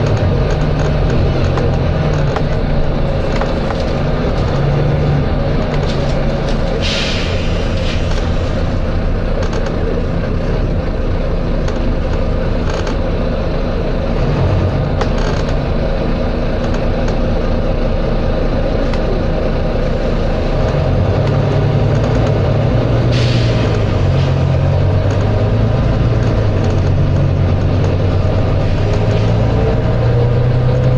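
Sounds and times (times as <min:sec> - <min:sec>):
bus diesel engine running: 0:00.0 - 0:30.9.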